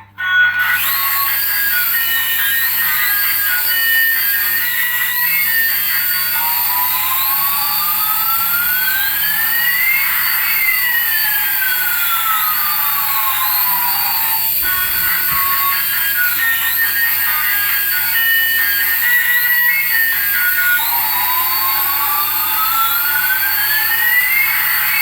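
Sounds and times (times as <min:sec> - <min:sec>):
toy jet engine hiss and whine: 0:00.6 - 0:25.0.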